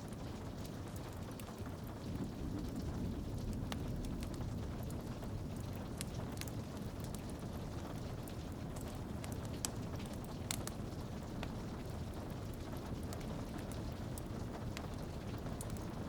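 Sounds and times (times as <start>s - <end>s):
rain on a window pane: 0.0s - 16.0s
wood fire crackling and popping: 0.0s - 16.0s.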